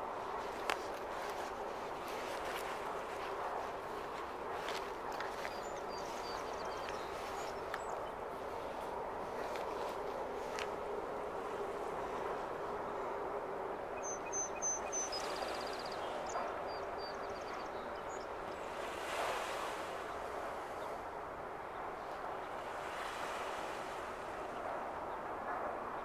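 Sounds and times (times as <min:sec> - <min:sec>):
wind: 0:00.0 - 0:26.0.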